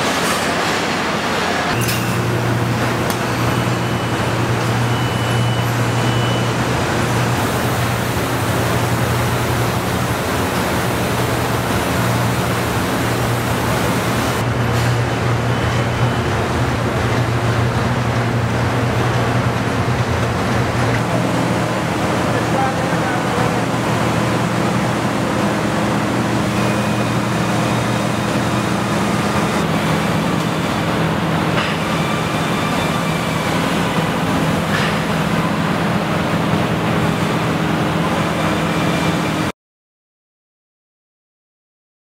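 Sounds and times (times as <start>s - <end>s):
machinery low hum: 1.2s - 39.5s.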